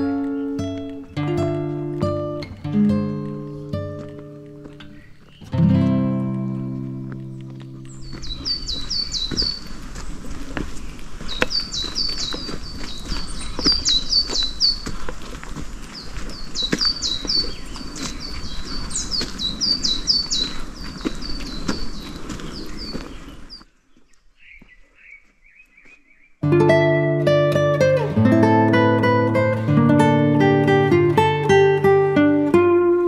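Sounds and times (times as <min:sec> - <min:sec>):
footsteps on dirt path: 0:00.0 - 0:33.0
forest birds singing: 0:00.0 - 0:33.0.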